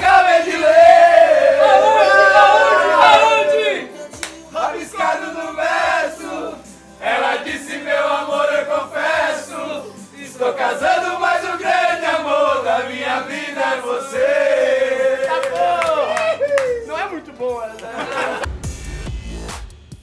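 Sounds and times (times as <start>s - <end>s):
group of voices singing: 0.0s - 16.4s.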